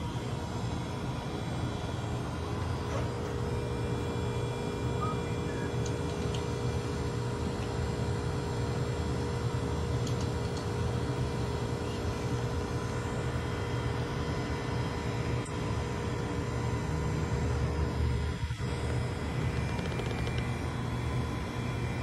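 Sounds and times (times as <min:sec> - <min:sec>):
faint constant tone: 0:00.0 - 0:22.0.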